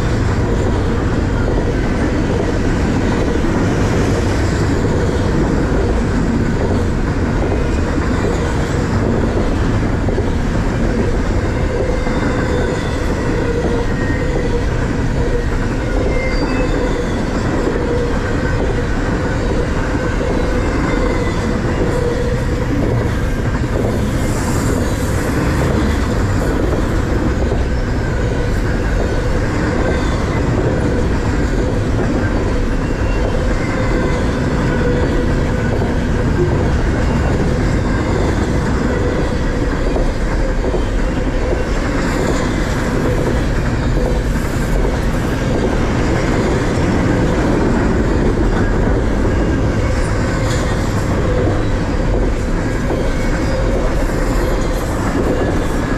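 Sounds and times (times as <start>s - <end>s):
freight train wheels on rails: 0.0s - 55.9s
train cars clickety-clack: 0.0s - 55.9s.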